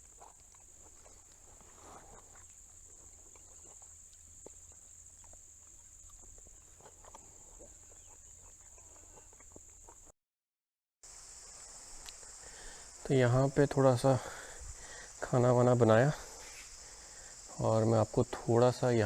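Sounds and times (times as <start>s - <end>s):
crickets chirring: 0.0s - 10.1s, 11.0s - 19.0s.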